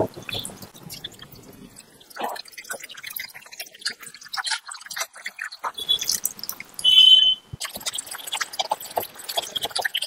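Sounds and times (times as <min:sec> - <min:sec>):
water dripping and splashing: 0:00.0 - 0:10.0.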